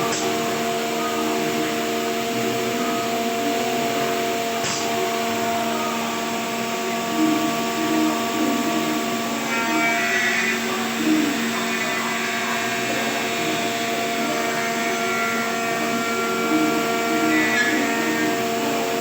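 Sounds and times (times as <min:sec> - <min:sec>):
power tool motor whine: 0:00.0 - 0:19.0.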